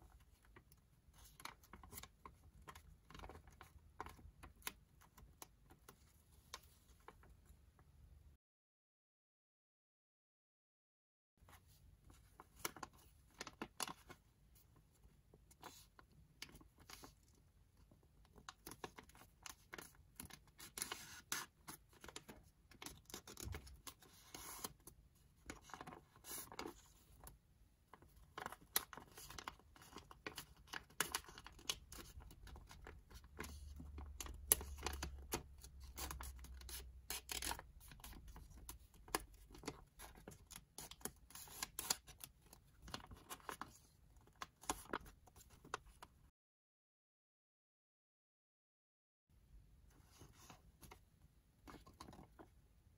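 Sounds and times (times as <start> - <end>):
paper crackling and rustling: 0.1 - 7.4, 11.7 - 46.2, 50.0 - 52.6.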